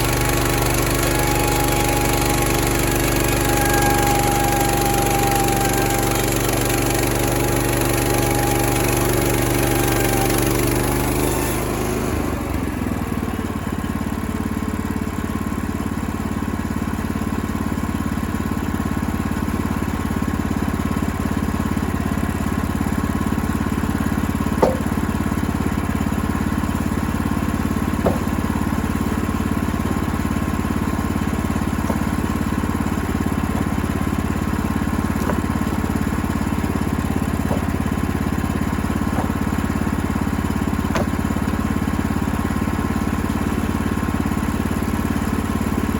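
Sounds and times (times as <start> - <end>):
sawmill engine running: 0.0 - 45.9.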